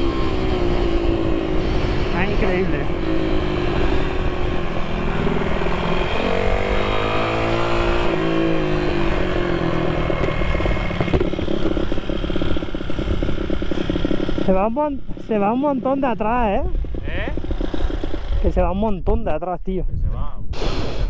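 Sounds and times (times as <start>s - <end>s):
motorcycle engine revving: 0.0s - 19.2s.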